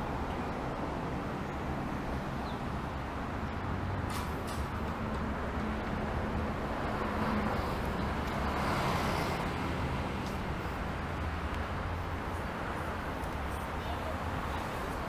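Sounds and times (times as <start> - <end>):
road traffic rumble: 0.0 - 15.0
vehicle passing: 0.0 - 15.0.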